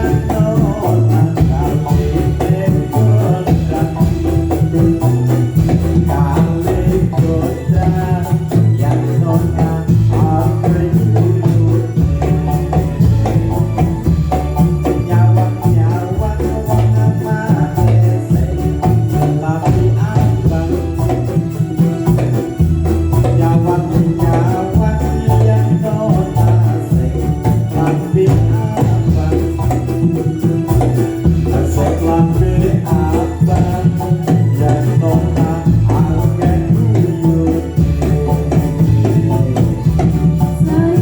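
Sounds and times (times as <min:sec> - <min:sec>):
heavy low drum: 0:00.0 - 0:41.0
melodic line: 0:00.0 - 0:41.0
tambourine jingles and rattles: 0:00.0 - 0:41.0.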